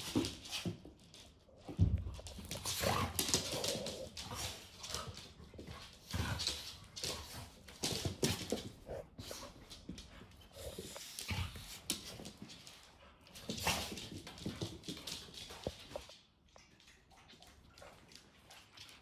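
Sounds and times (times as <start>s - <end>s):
dogs play-fighting: 0.0s - 19.0s
paws clicking on hard floor: 0.0s - 19.0s.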